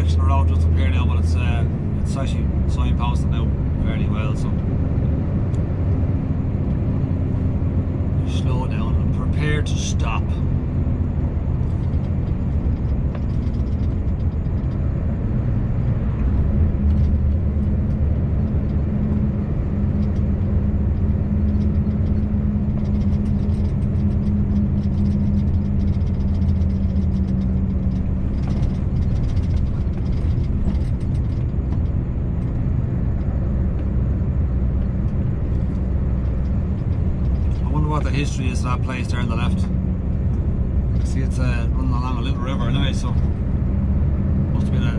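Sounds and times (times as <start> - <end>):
truck engine droning: 0.0 - 44.9.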